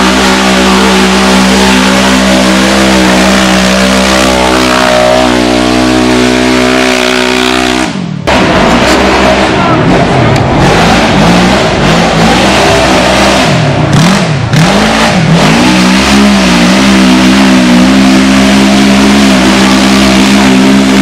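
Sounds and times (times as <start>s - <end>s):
off-road buggy engine revving: 0.0s - 21.0s.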